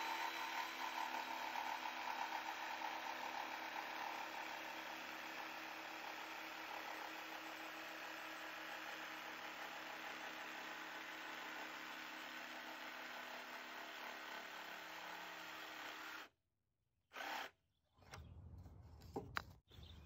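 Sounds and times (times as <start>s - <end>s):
jigsaw cutting wood: 0.0s - 16.3s, 17.1s - 17.6s.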